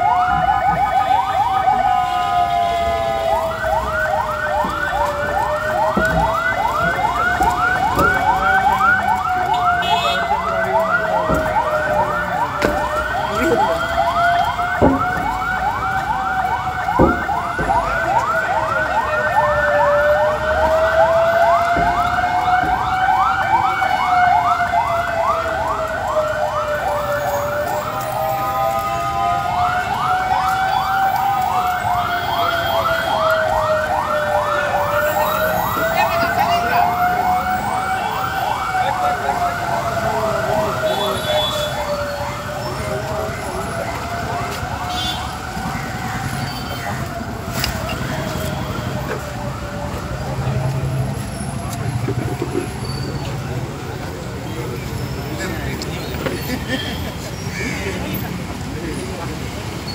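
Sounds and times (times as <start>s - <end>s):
siren fast yelp: 0.0s - 51.5s
siren wailing: 0.0s - 56.2s.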